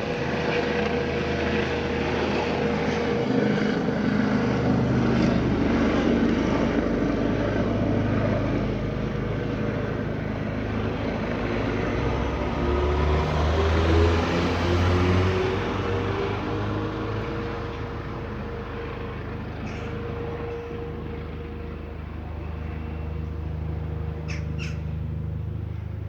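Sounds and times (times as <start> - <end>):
helicopter rotor and engine drone: 0.0 - 26.0.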